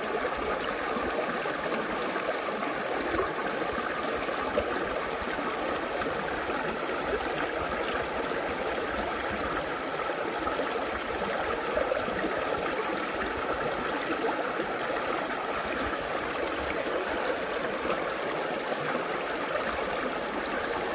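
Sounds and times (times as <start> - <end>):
creek water flowing over rocks: 0.0 - 20.9.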